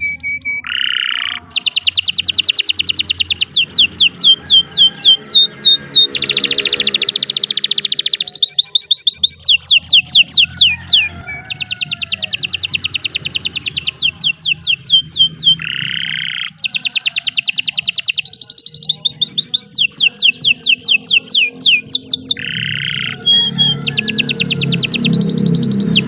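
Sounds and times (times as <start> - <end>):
canary singing: 0.0 - 26.0
harsh buzzy bird phrase: 0.0 - 26.0.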